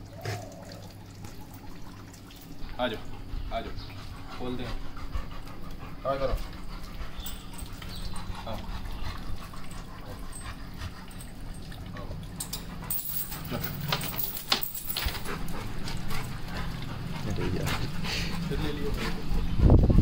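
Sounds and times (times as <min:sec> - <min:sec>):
dog whimpering and panting: 0:03.2 - 0:20.0.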